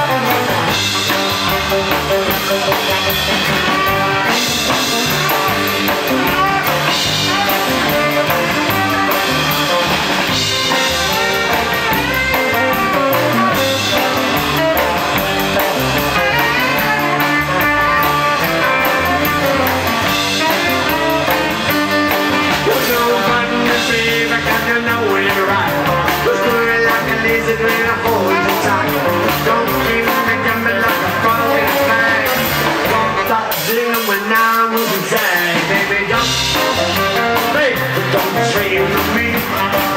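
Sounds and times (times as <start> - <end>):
upright double bass: 0.0 - 33.8, 35.1 - 39.9
saxophone lead: 0.0 - 34.0, 35.6 - 39.9
drum kit: 0.0 - 39.9
electric guitar: 0.0 - 39.9.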